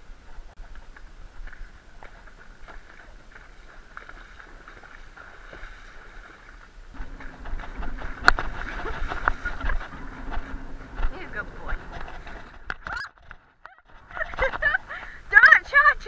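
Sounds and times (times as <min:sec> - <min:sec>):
hooves splashing through mud: 0:00.0 - 0:12.8, 0:13.9 - 0:16.0
wind rumbling on microphone: 0:00.0 - 0:16.0.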